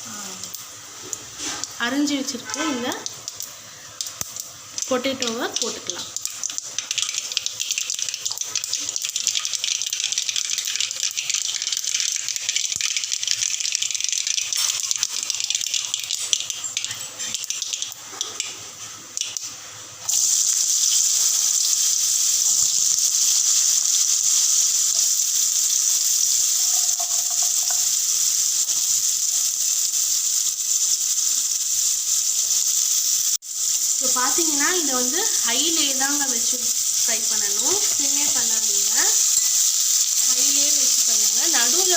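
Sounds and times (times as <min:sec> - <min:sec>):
potatoes sizzling in hot oil: 0:00.0 - 0:41.9.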